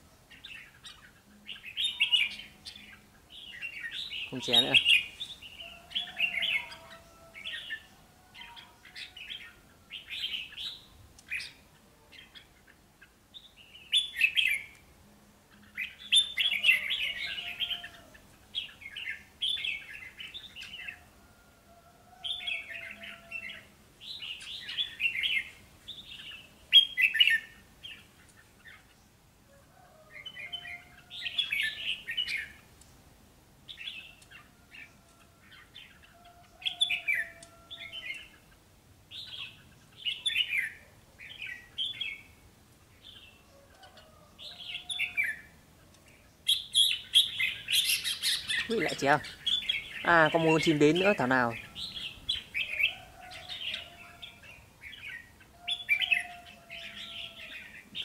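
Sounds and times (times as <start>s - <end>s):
birds chirping: 0.0s - 21.1s, 22.2s - 29.2s, 29.9s - 33.0s, 33.6s - 58.0s.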